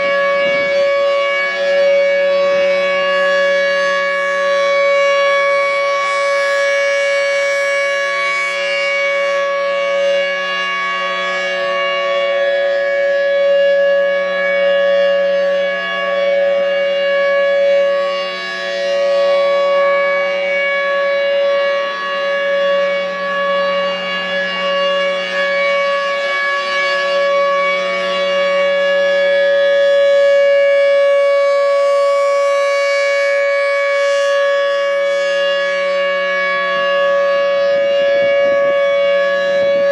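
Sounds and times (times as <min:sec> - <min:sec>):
civil defense siren steady tone: 0:00.0 - 0:39.9.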